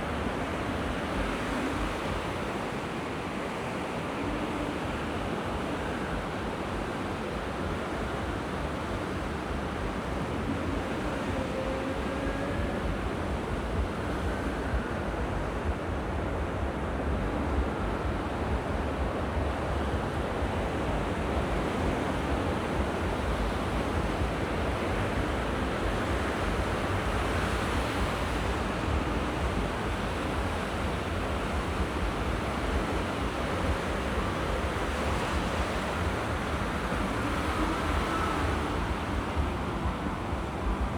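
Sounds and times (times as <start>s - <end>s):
sea waves washing on shore: 0.0s - 40.9s
wind buffeting microphone: 0.0s - 40.9s.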